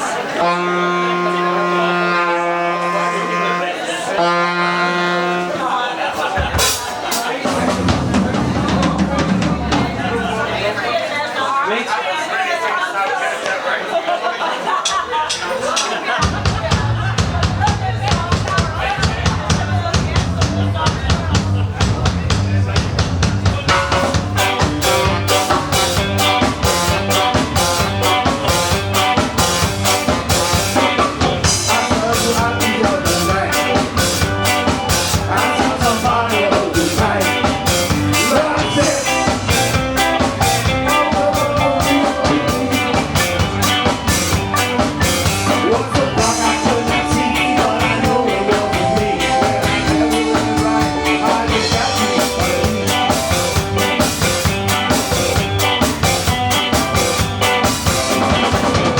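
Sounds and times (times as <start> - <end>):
live ska band playing: 0.0 - 11.5, 14.8 - 58.9
driving drum beat: 6.2 - 11.0, 14.8 - 58.9.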